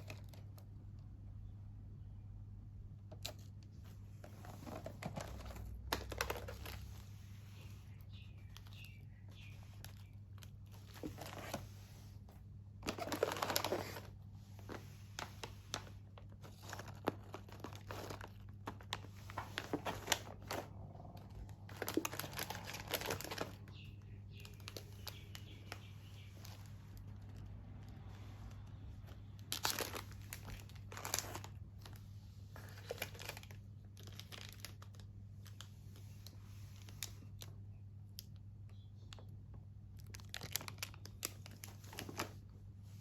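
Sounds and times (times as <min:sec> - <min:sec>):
plastic packaging rustling: 0:03.2 - 0:27.4, 0:29.0 - 0:37.5, 0:40.0 - 0:42.5.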